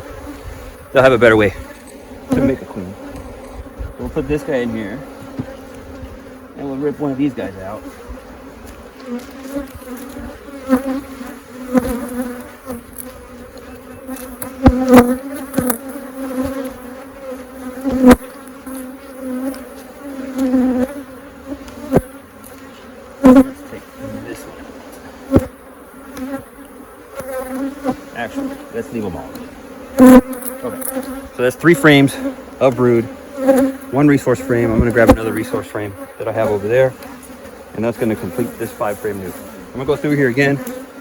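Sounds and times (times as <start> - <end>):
honeybees buzzing: 0.0 - 41.0.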